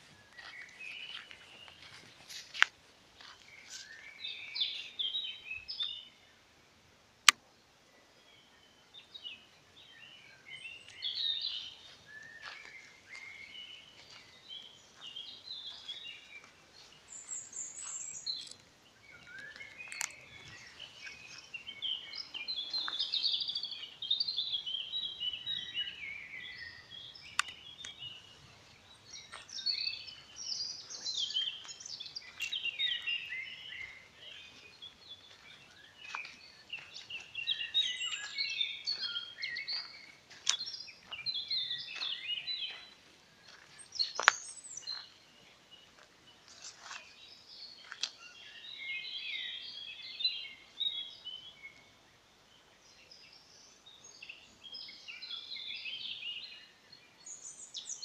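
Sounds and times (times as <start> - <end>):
songbird chorus: 0.0 - 58.0.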